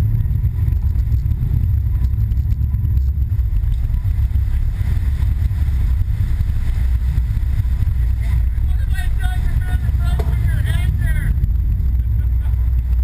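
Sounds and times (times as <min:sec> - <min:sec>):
boat engines rumbling: 0:00.0 - 0:13.0
water surging against boat: 0:00.0 - 0:13.0.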